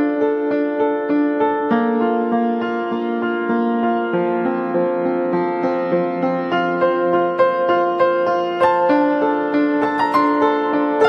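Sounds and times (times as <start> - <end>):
piano-like keyboard music: 0.0 - 11.0.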